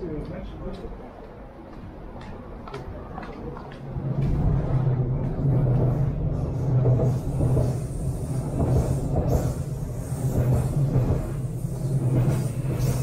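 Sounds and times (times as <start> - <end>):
train rumbling over steel bridge: 0.0 - 13.0.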